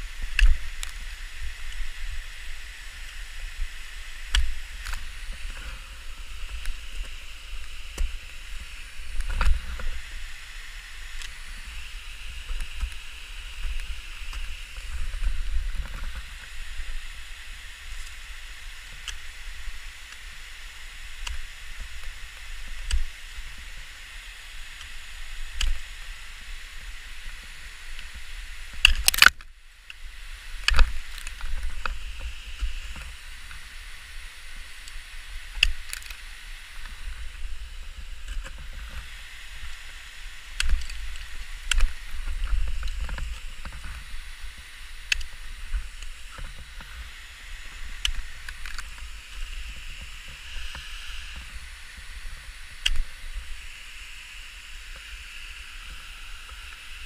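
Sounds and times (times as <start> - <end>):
steady hiss and low rumble: 0.0 - 57.0.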